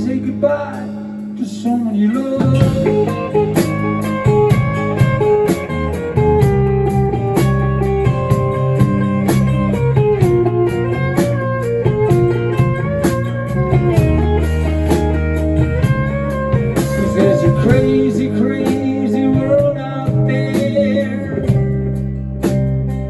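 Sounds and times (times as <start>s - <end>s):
guitar melody: 0.0s - 23.0s
steady drum beat: 0.0s - 23.0s
sustained bass: 0.0s - 23.0s.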